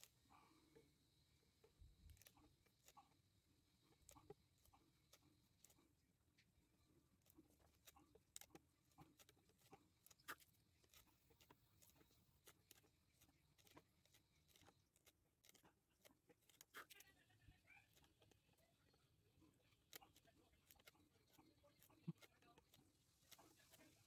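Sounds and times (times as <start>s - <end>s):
faint small clicks and taps: 3.8s - 24.0s.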